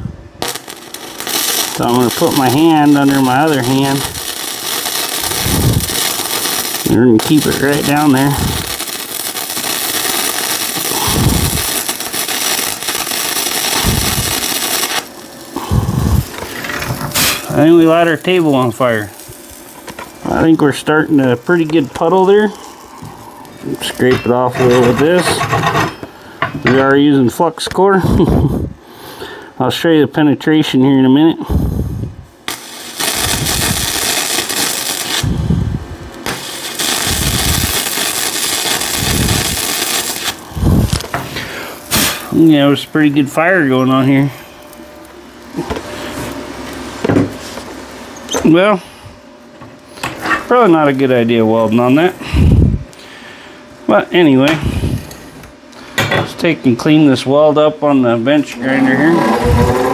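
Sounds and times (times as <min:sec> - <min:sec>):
welding arc crackling: 0:00.0 - 0:28.7, 0:31.5 - 0:55.5, 0:58.3 - 0:59.9.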